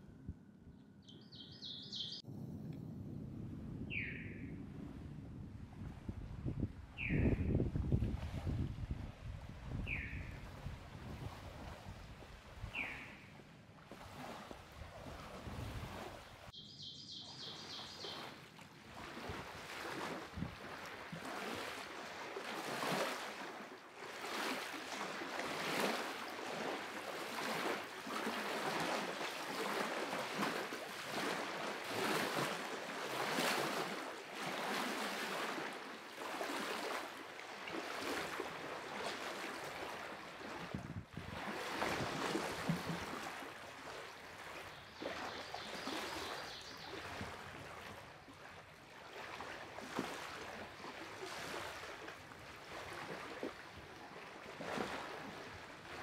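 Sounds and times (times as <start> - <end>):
small waves lapping on shore: 3.9 - 56.0.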